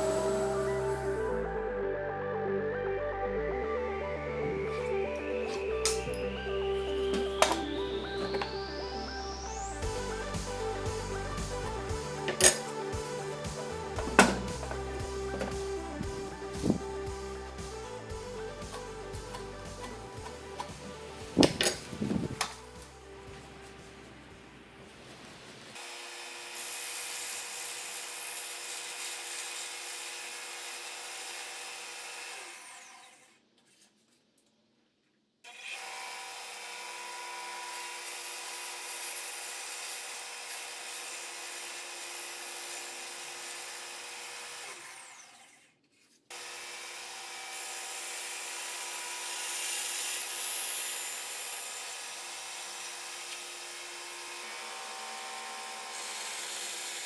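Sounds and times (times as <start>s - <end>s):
band saw cutting wood: 0.0s - 1.5s, 7.1s - 22.9s, 25.8s - 33.4s, 35.5s - 57.0s.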